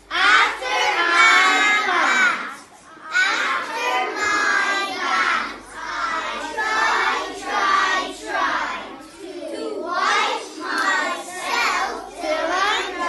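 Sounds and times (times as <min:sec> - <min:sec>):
children singing in chorus: 0:00.0 - 0:13.0.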